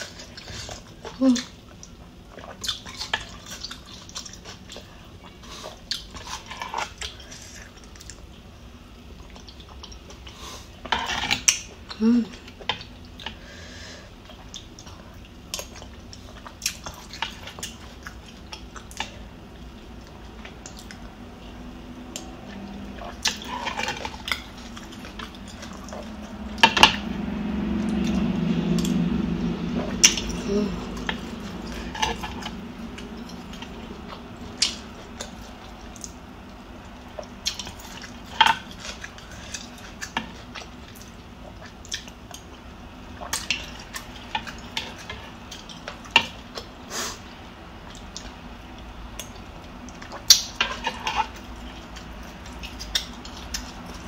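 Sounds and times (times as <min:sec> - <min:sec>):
close eating sounds: 0:00.0 - 0:54.0.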